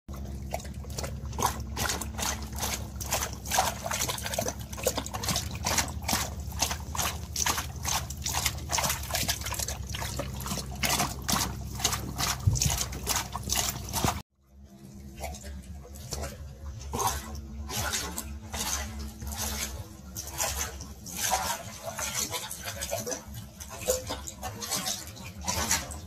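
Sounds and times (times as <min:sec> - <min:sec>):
dog lapping water from bucket: 0:00.1 - 0:26.0.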